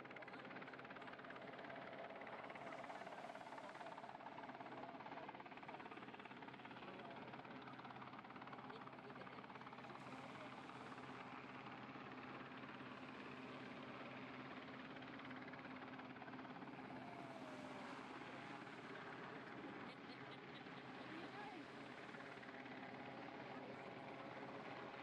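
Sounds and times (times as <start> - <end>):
helicopter hovering: 0.0 - 25.0.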